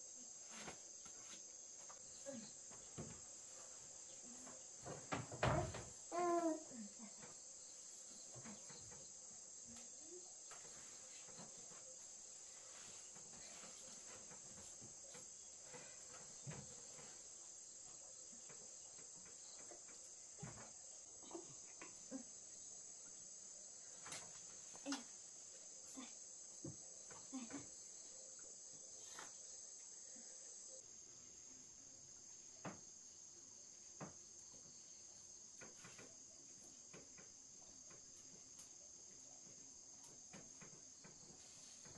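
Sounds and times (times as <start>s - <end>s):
insect chorus: 0.0s - 41.9s.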